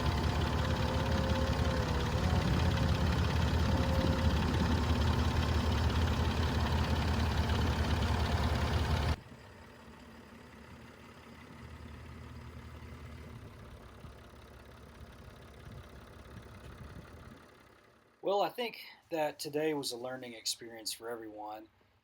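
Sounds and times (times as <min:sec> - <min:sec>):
skid steer engine running: 0:00.0 - 0:18.2.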